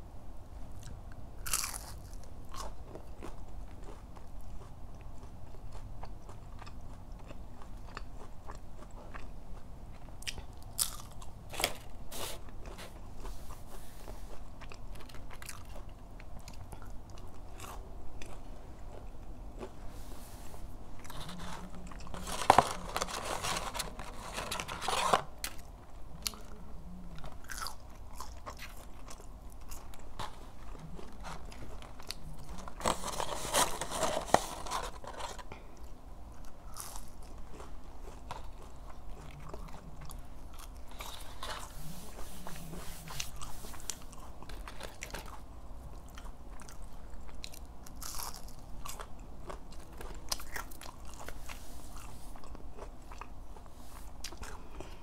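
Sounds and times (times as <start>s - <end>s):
crunchy bites and chewing: 0.8s - 13.3s, 14.3s - 19.8s, 27.3s - 41.7s, 43.3s - 55.0s.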